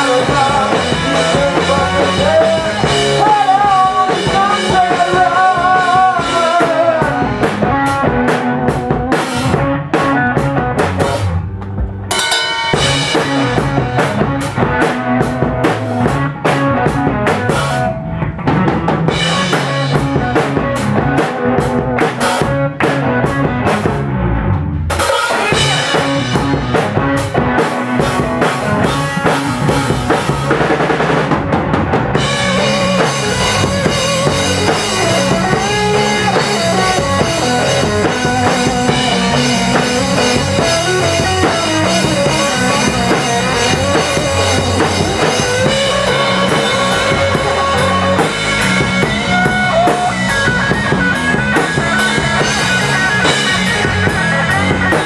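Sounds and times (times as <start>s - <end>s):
bass: 0.0s - 55.0s
drum kit: 0.0s - 55.0s
electric guitar bending lead notes: 0.0s - 55.0s.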